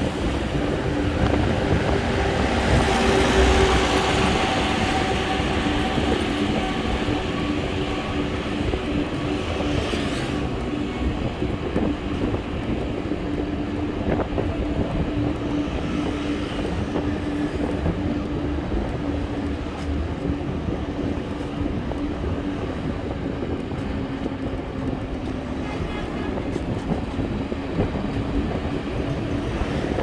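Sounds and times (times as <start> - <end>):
bike riding rumble: 0.0 - 30.0.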